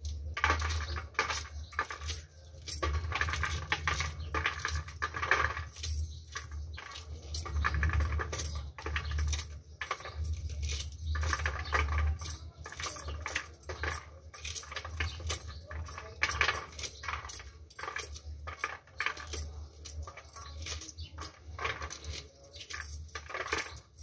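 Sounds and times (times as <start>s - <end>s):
corn kernels rattling onto steel plate: 0.0s - 24.0s.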